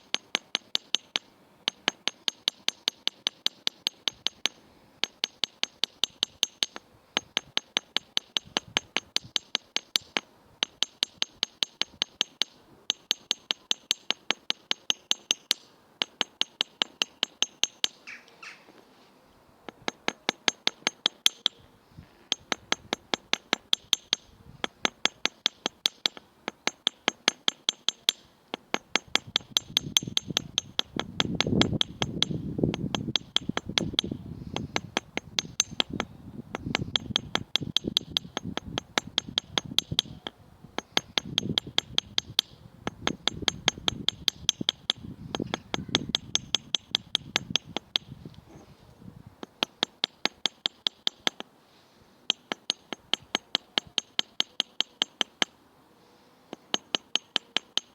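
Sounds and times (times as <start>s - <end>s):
hammer tapping on steel anvil: 0.0s - 18.0s, 19.7s - 21.6s, 22.3s - 48.6s, 49.4s - 51.5s, 52.3s - 55.6s, 56.5s - 57.9s.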